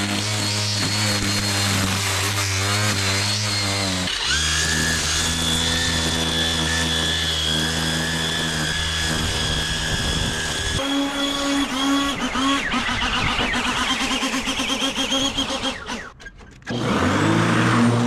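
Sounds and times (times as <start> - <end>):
string trimmer motor whine: 0.0 - 18.0.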